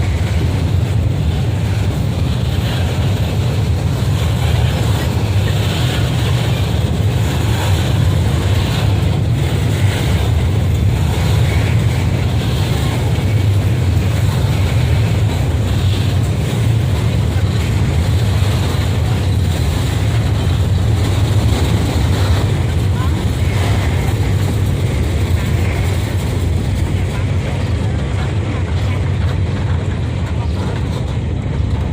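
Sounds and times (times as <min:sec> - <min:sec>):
train rumbling: 0:00.0 - 0:31.9
wind and track noise hiss: 0:00.0 - 0:31.9.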